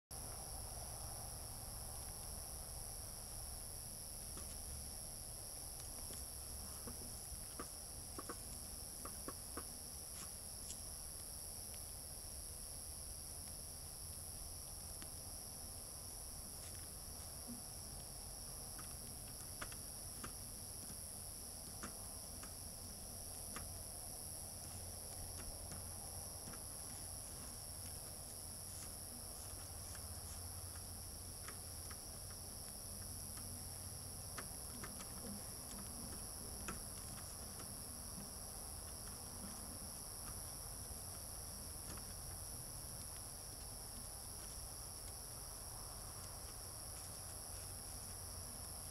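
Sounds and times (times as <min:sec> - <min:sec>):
night insects chorus: 0:00.2 - 0:48.9.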